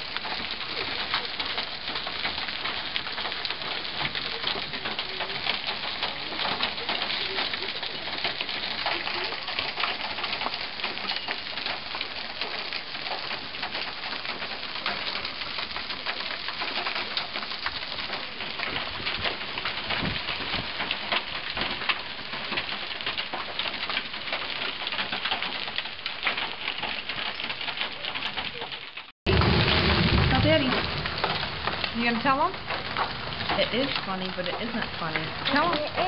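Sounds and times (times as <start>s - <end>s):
hail clattering: 0.0s - 36.0s.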